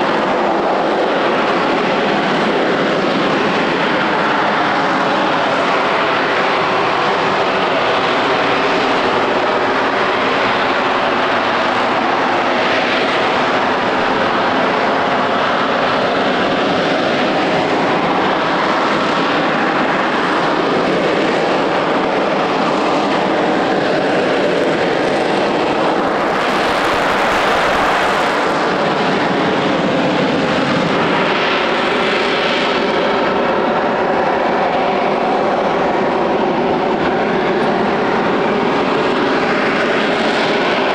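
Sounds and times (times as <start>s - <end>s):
jet engine running loud: 0.0s - 40.9s.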